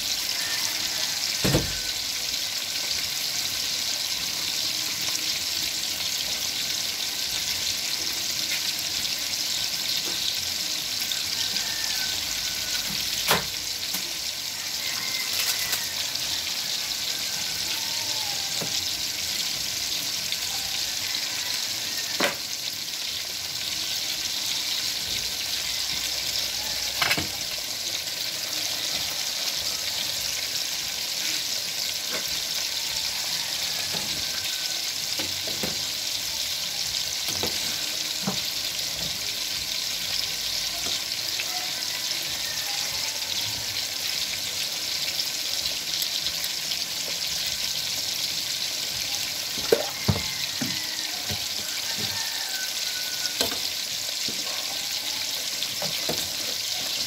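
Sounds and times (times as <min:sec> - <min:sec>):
steaming pot hissing: 0:00.0 - 0:57.0.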